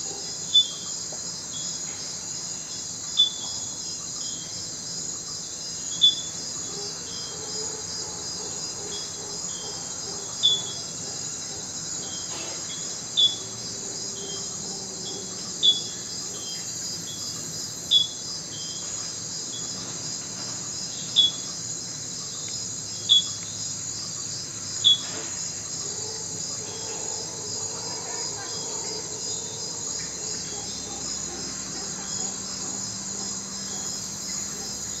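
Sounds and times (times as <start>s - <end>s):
insect chorus trilling: 0.0s - 35.0s.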